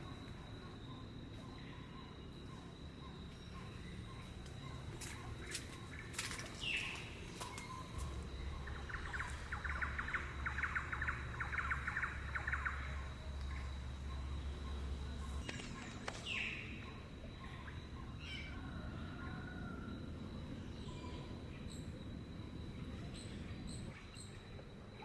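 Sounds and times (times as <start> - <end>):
high insect whine: 0.0 - 25.0
birds calling: 3.1 - 23.9.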